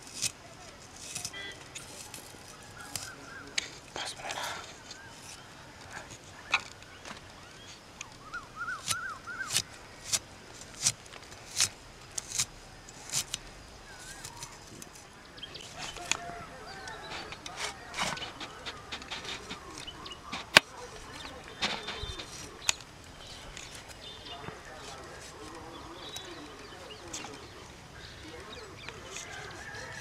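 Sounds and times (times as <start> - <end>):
birds chirping faintly: 0.0 - 30.0.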